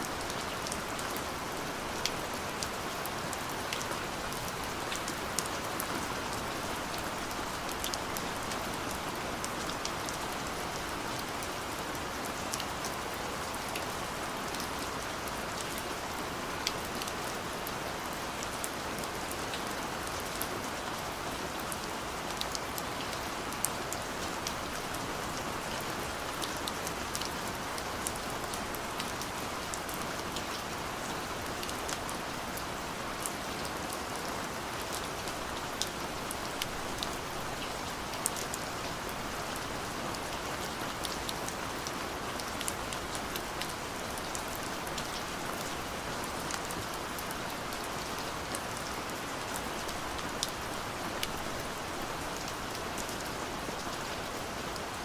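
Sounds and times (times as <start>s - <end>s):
raindrops ticking on a surface: 0.0s - 55.0s
steady rain: 0.0s - 55.0s.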